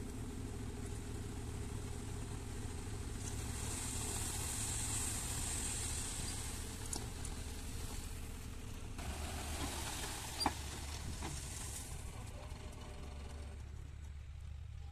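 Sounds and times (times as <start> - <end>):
soil sliding with rushing hiss: 0.0 - 13.7
tractor diesel engine running: 0.0 - 14.9.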